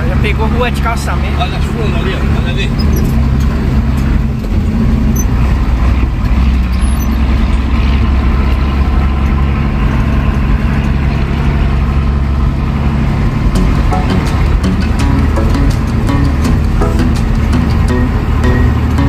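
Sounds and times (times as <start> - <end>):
truck diesel engine droning: 0.0 - 19.0.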